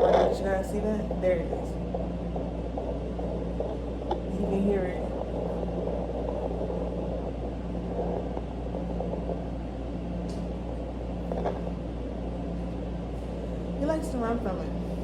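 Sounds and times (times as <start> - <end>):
whooshing static: 0.0 - 15.0.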